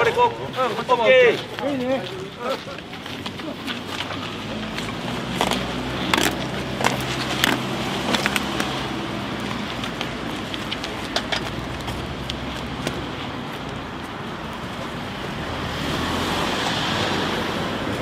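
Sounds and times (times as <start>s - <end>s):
low hum of road vehicles: 0.0s - 18.0s.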